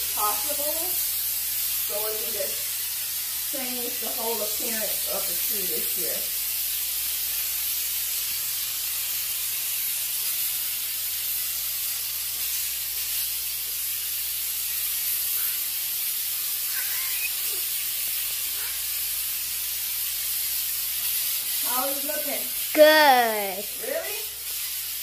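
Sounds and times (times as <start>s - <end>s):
aerosol spray hissing: 0.0s - 25.0s.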